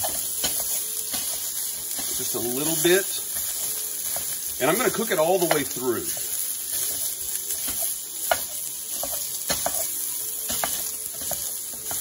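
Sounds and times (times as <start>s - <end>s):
sausage sizzling in a pan: 0.0s - 12.0s.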